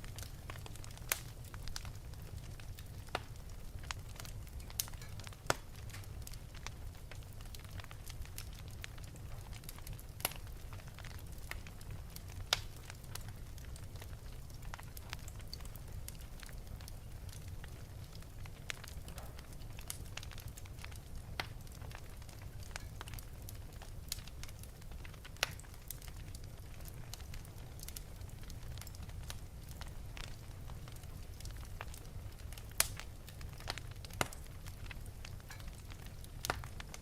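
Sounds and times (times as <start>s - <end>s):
low rumble of fire: 0.0s - 37.0s
wood fire crackling and popping: 0.0s - 37.0s.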